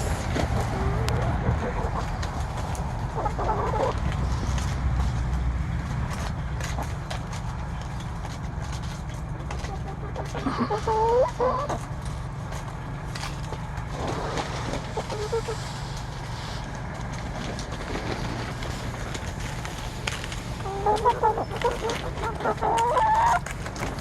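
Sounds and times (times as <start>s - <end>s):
hens clucking: 0.0s - 5.2s, 6.0s - 24.0s.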